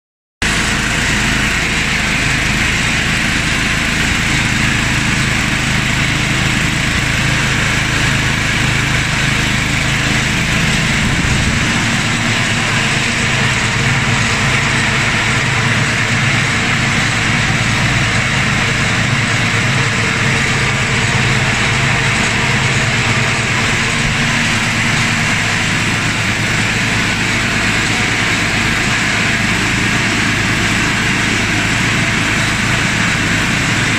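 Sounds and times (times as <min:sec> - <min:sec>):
small gasoline engine running: 0:00.4 - 0:33.9.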